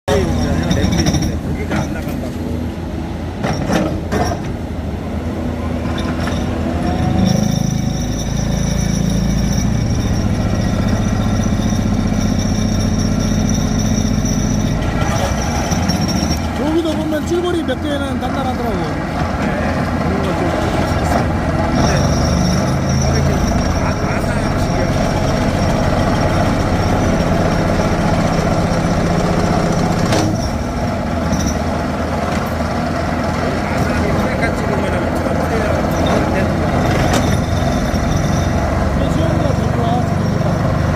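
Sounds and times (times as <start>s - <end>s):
heavy diesel machinery running: 0.0s - 40.9s
sharp metallic clanks: 0.1s - 2.3s, 5.9s - 17.3s, 20.3s - 32.7s, 33.7s - 40.6s.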